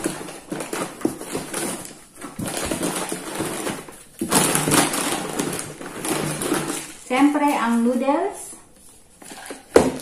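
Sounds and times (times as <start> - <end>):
plastic packets crinkling: 0.0 - 8.0, 8.8 - 10.0.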